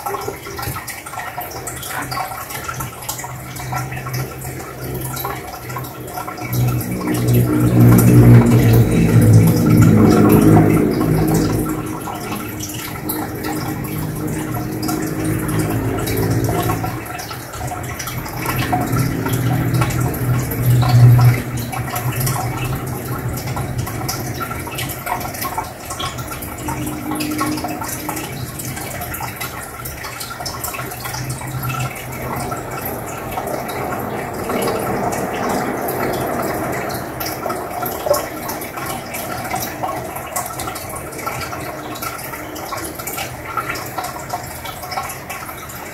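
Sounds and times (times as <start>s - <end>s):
sponge filter bubbling: 0.0s - 45.9s
low hum: 0.5s - 45.9s.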